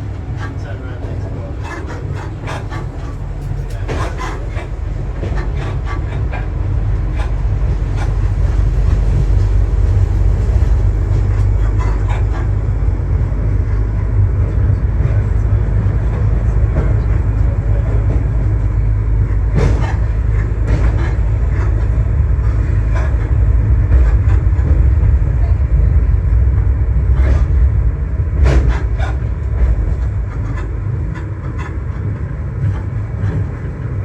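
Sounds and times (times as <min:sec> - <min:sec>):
diesel railbus engine hum: 0:00.0 - 0:34.0
wheels clicking on track: 0:00.0 - 0:34.0.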